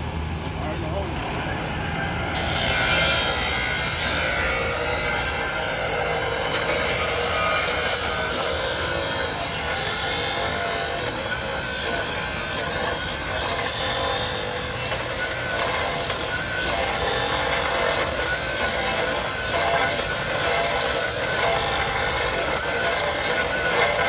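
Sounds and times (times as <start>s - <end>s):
power cutter grinding steel: 0.6s - 24.0s.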